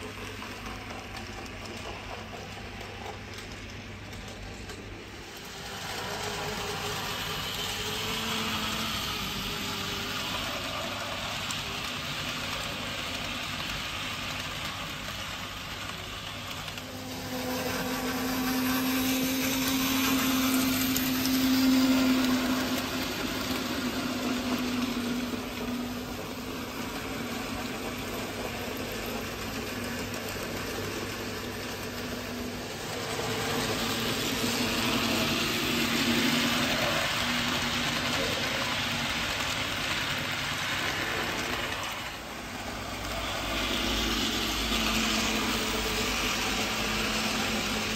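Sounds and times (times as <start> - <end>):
model train motor whirring: 0.0 - 47.9
wheels rattling over rails: 0.0 - 47.9.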